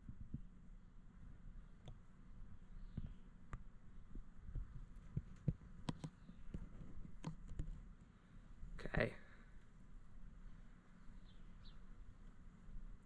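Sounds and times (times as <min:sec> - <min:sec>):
faint low rumble: 0:00.0 - 0:13.0.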